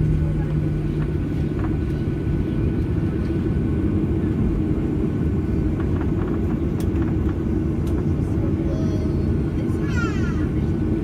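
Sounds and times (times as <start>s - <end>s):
jet engine low rumble in cabin: 0.0s - 11.0s.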